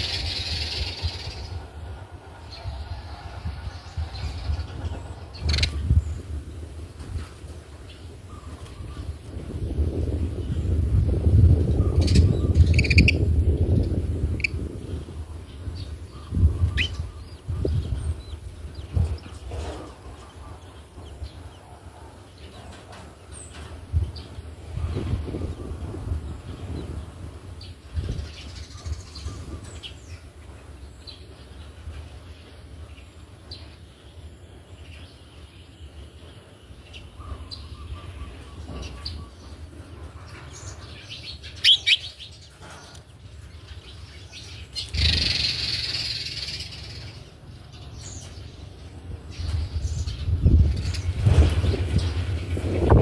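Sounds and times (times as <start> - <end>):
sparrows chirping: 0.0 - 53.0.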